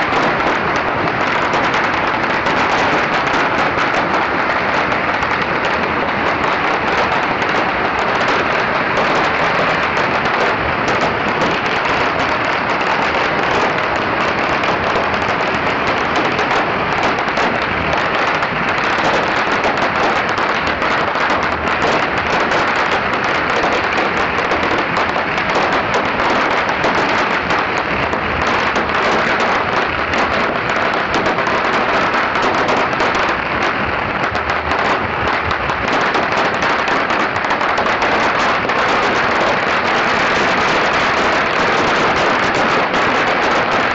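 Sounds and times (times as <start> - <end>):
firecrackers crackling: 0.0 - 43.9.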